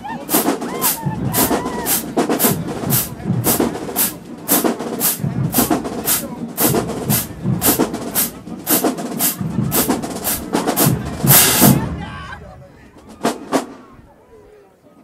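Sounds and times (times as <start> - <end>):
marching drums and cymbals: 0.0 - 13.9.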